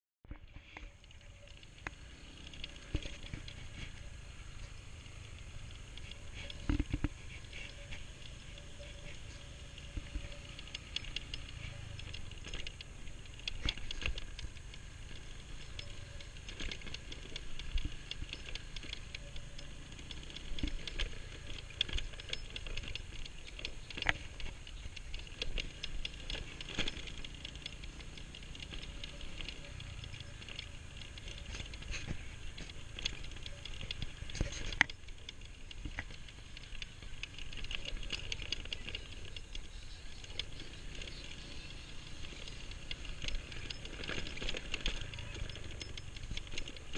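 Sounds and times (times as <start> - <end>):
low engine rumble: 0.3 - 46.9
scooter rattling and knocking: 1.0 - 46.9.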